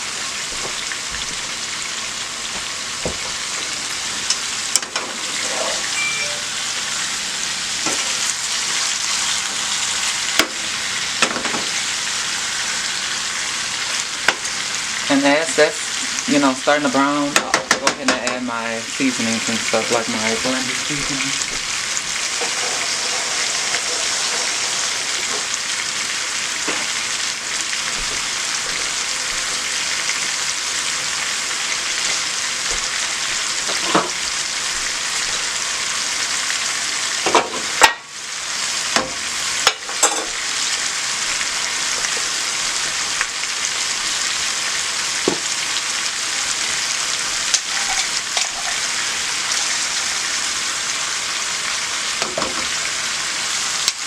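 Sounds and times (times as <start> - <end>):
chicken sizzling in a frying pan: 0.0 - 54.0.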